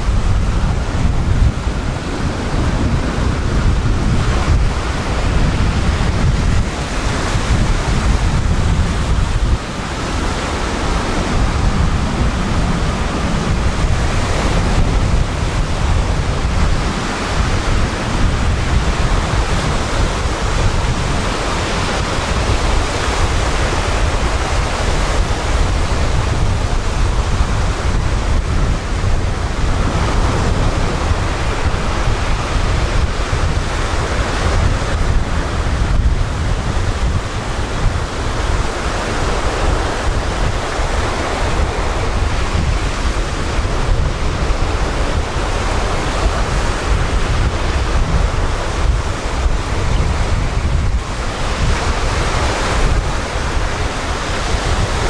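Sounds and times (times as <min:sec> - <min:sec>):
waves breaking on pebble beach: 0:00.0 - 0:55.0
wind rumbling on microphone: 0:00.0 - 0:55.0.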